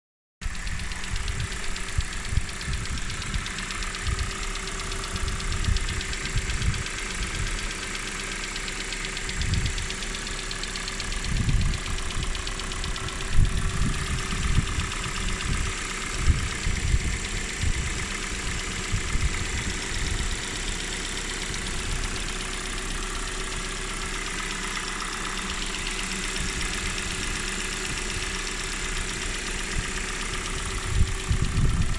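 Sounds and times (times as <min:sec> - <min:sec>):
car engine idling: 0:00.4 - 0:31.9
fast engine ticking: 0:00.4 - 0:31.9.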